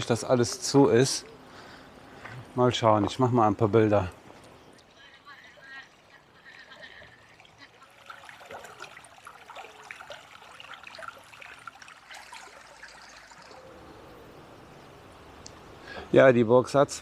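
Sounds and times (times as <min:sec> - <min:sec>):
water trickling and babbling: 0:00.0 - 0:17.0.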